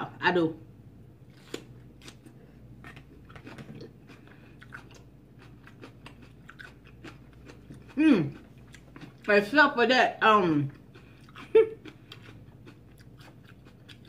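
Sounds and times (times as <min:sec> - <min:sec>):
chewing crunchy nachos: 0:01.2 - 0:09.5, 0:10.6 - 0:14.0.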